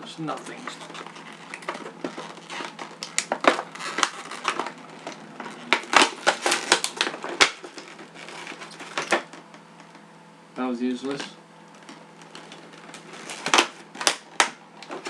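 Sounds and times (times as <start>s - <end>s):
scissors cutting plastic packaging: 0.4s - 9.3s, 11.8s - 15.0s.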